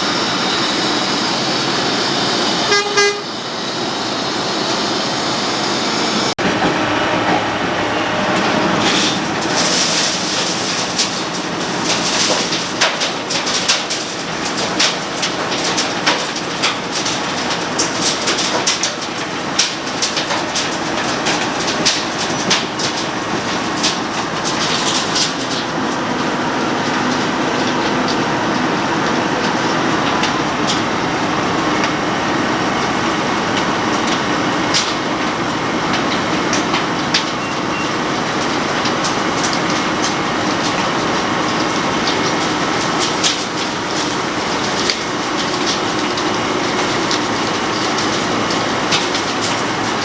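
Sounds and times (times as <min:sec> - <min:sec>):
road planer running: 0:00.0 - 0:50.0.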